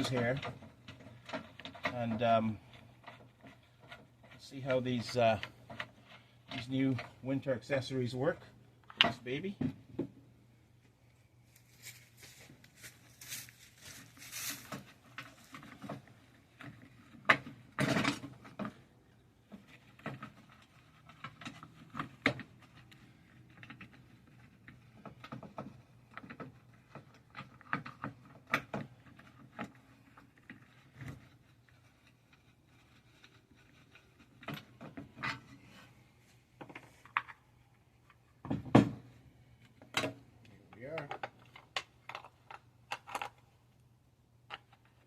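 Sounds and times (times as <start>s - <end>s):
rustling and scraping: 0.0s - 43.5s.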